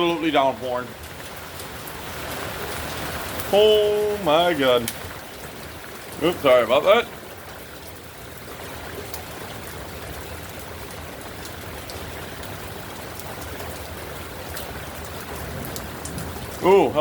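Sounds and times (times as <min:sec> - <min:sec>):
heavy rain pouring: 0:00.0 - 0:17.0
raindrops tapping: 0:00.0 - 0:17.0.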